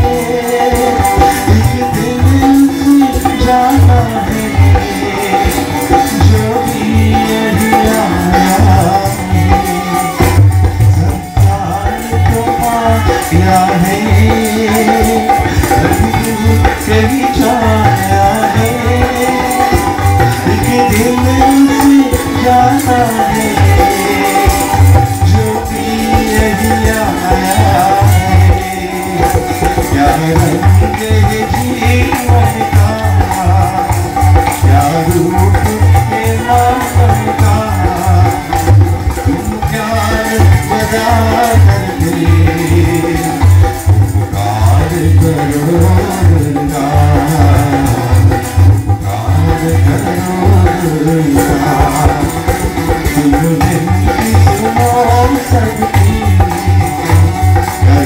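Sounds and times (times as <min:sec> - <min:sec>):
hand drum beating: 0:00.0 - 0:58.0
rattling hand percussion: 0:00.0 - 0:58.0
voices singing devotional song: 0:00.0 - 0:58.0.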